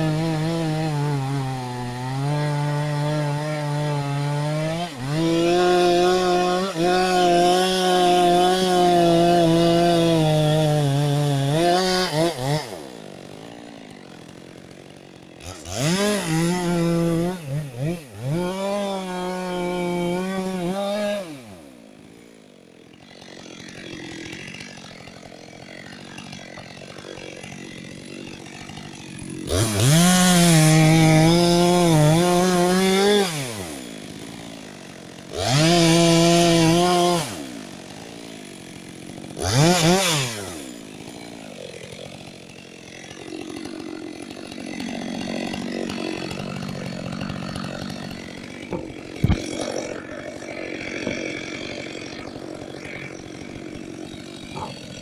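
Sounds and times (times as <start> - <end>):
chainsaw cutting and idling: 0.0 - 55.0.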